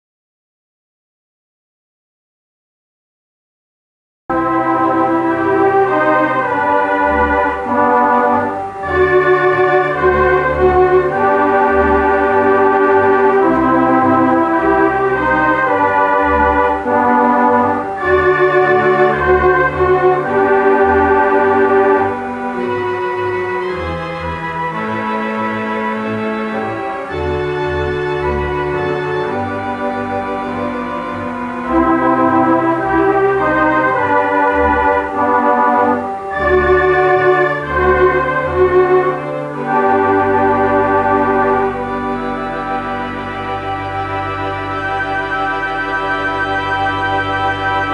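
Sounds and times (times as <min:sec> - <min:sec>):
theatre organ playing chords: 0:04.3 - 0:47.9.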